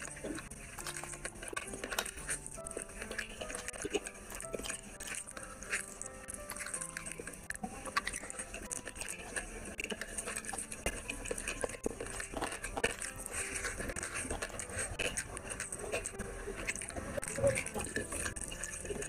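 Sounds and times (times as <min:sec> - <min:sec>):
fingers squishing rice on plate: 0:00.0 - 0:19.0
person chewing food: 0:00.0 - 0:19.0.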